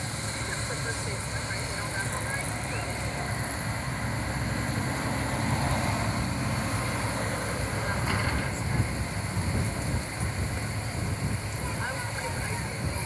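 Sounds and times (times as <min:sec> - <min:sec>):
small motor rumbling: 0:00.0 - 0:13.0.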